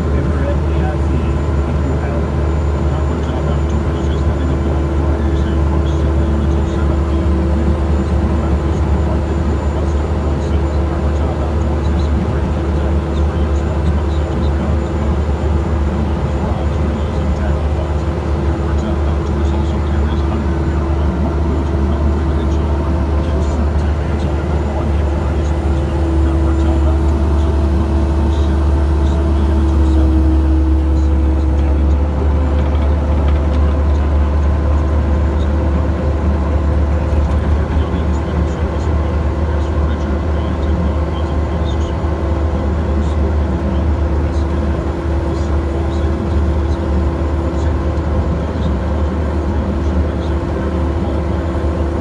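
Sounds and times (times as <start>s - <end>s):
excavator diesel engine droning: 0.0s - 52.0s
higher whine: 0.0s - 52.0s.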